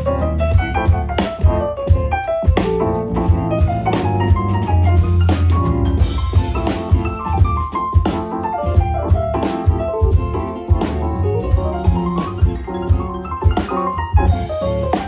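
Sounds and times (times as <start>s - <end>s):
drum kit beat: 0.0s - 15.0s
heavy bass: 0.0s - 15.0s
keyboard melody and chords: 0.0s - 15.0s.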